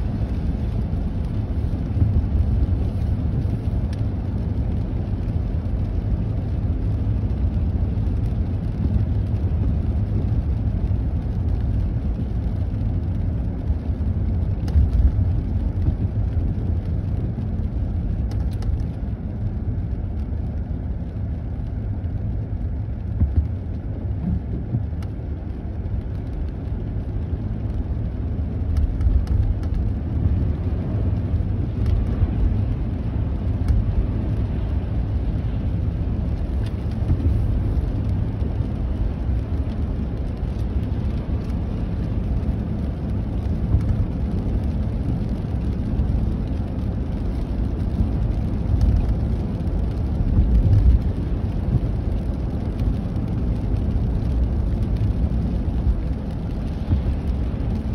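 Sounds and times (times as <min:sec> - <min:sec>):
car driving on wet road: 0:00.0 - 0:57.9.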